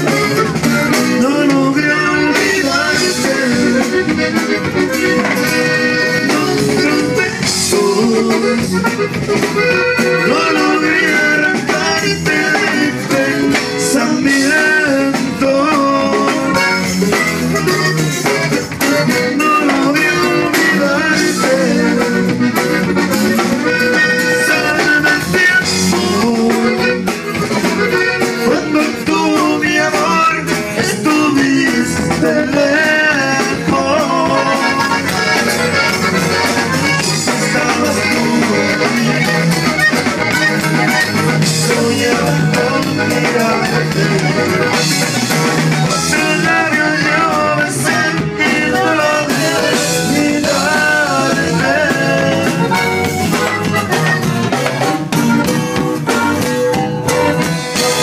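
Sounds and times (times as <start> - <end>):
button accordion: 0.0 - 58.0
drum kit: 0.0 - 58.0
guitar: 0.0 - 58.0.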